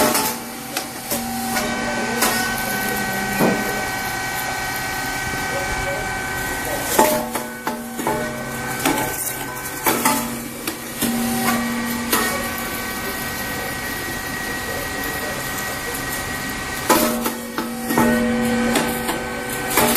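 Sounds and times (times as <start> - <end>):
machine humming: 0.0 - 19.9.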